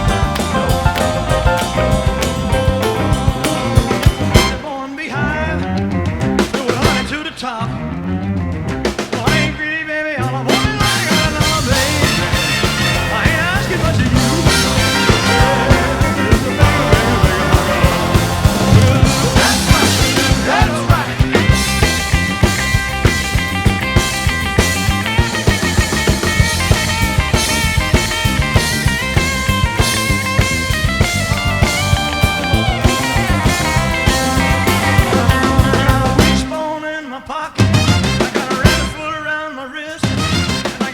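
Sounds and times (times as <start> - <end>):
drums on a steady beat: 0.0 - 4.7, 10.5 - 36.6, 37.6 - 39.1, 40.0 - 40.9
rock band playing: 0.0 - 36.8, 37.6 - 39.3, 40.0 - 40.9.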